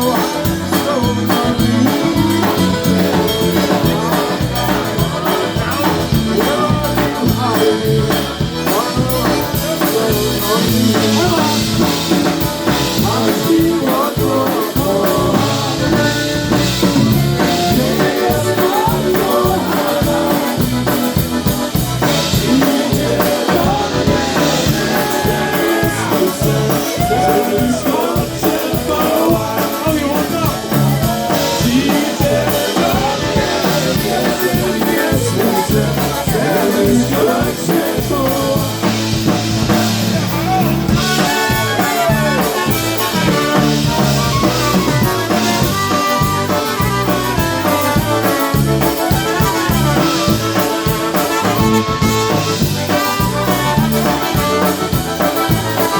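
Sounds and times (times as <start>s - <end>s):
drum kit beat: 0.0s - 55.9s
person singing: 0.0s - 55.9s
polka band playing: 0.0s - 55.9s.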